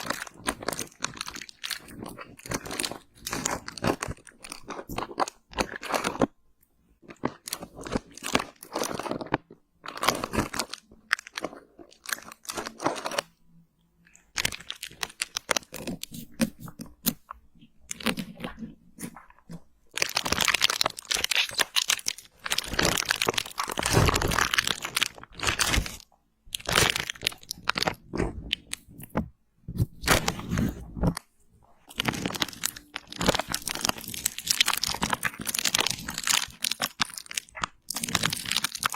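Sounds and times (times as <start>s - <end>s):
crisp crunching and crackling: 0.0s - 6.4s, 7.0s - 13.4s, 14.0s - 38.9s.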